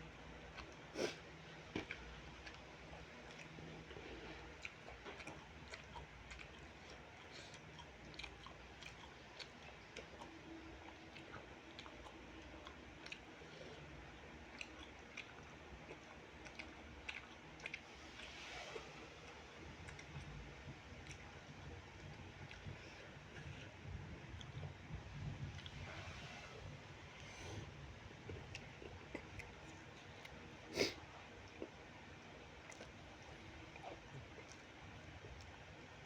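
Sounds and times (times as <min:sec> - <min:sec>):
faint chewing: 0:00.0 - 0:36.0.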